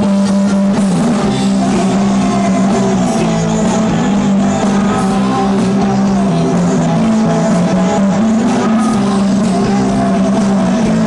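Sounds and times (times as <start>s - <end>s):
live rock band playing: 0.0s - 11.0s
sustained electric guitar notes: 0.0s - 11.0s.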